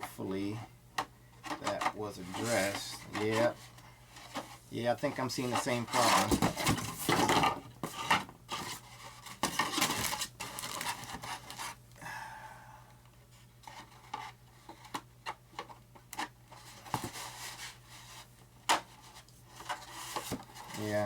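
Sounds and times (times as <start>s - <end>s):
rubbing and scraping of model parts: 0.2s - 11.8s, 13.3s - 21.0s.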